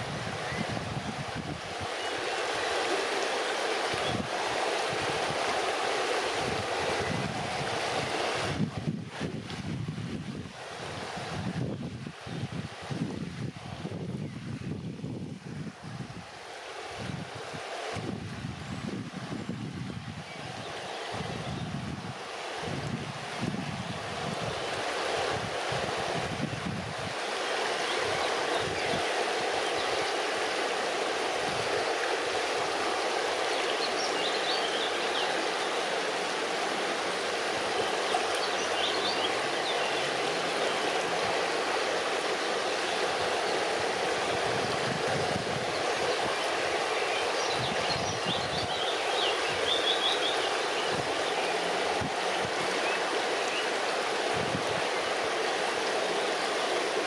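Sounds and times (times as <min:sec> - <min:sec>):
river water rushing over rocks: 0:00.0 - 0:14.2, 0:15.0 - 0:57.0.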